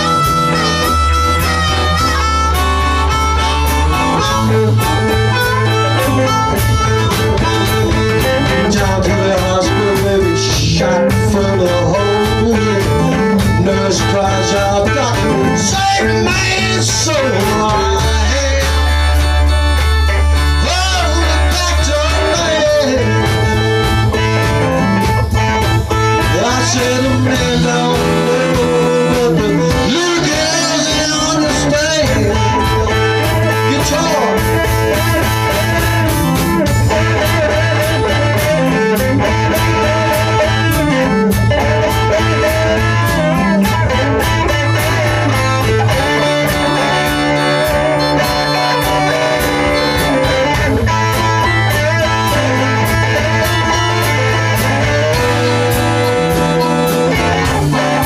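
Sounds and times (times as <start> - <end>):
blues-rock guitar music: 0.0 - 58.0
held bass notes: 0.0 - 58.0.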